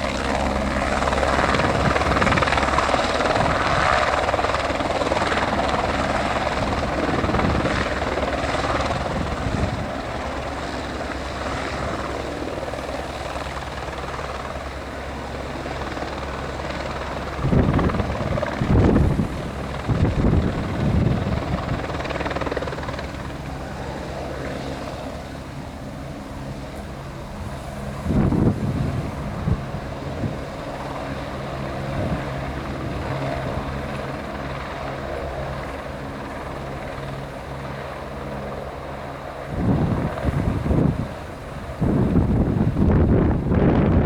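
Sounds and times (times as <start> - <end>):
helicopter engine and rotor: 0.0 - 44.0
wind buffeting microphone: 0.0 - 44.0.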